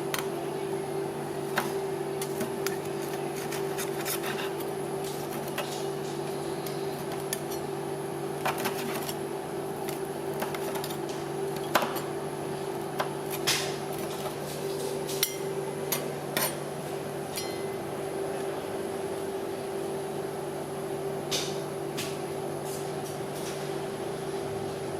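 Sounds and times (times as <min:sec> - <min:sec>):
steady hum: 0:00.0 - 0:24.9.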